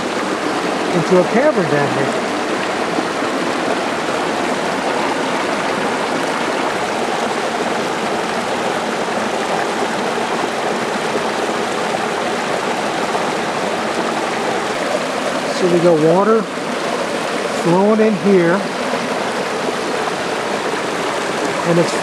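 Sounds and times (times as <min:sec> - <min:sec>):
stream of water flowing: 0:00.0 - 0:22.0.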